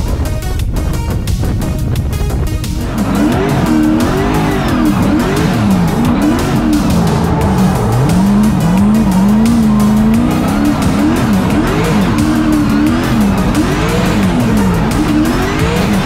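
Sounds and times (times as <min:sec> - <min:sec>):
car engine revving: 0:00.0 - 0:16.0
tyres squealing: 0:02.7 - 0:16.0.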